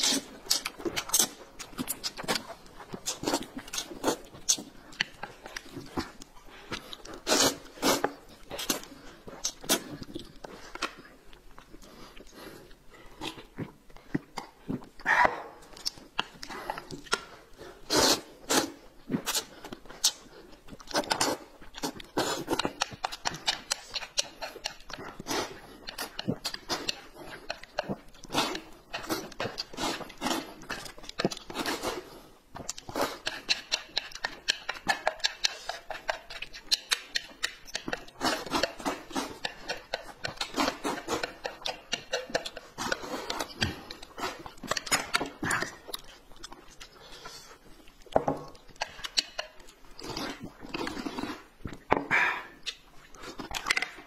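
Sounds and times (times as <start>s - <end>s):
noodles slurped: 0.0s - 51.9s
food chewing: 0.0s - 54.0s.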